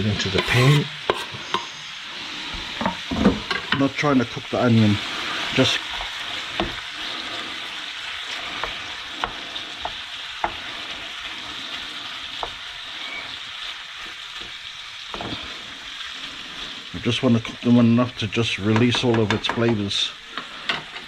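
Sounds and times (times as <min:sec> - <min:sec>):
bacon and onion sizzling in a pan: 0:00.0 - 0:21.0.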